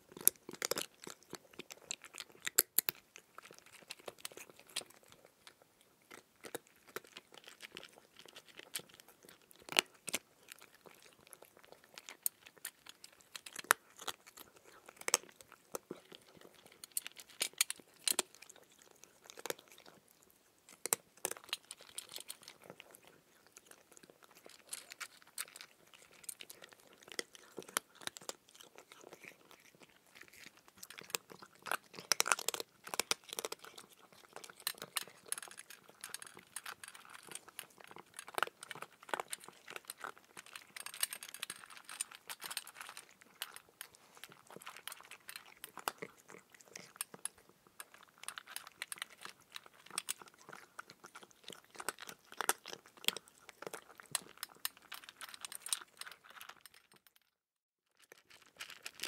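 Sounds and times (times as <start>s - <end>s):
person chewing cucumber crunches: 0.0s - 57.1s.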